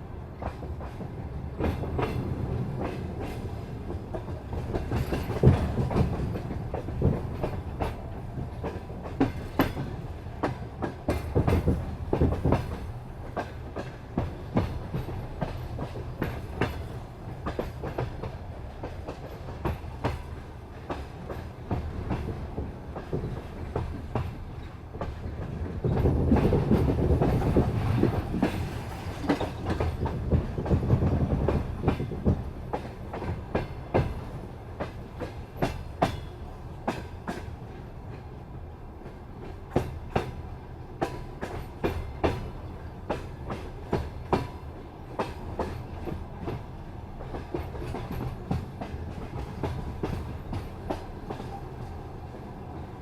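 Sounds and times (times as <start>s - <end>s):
train rumble: 0.0s - 53.0s
train wheels clickety-clack: 0.0s - 53.0s.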